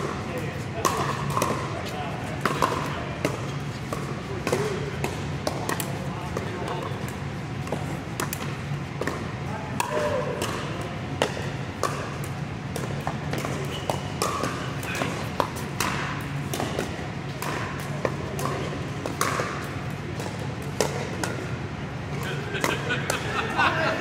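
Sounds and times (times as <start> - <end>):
paddles hitting plastic ball: 0.0 - 23.3
steady low hum: 0.0 - 24.0.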